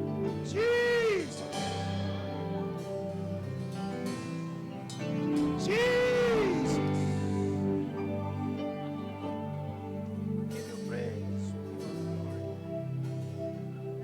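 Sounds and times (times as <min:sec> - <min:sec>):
slow instrumental worship music: 0:00.0 - 0:14.0.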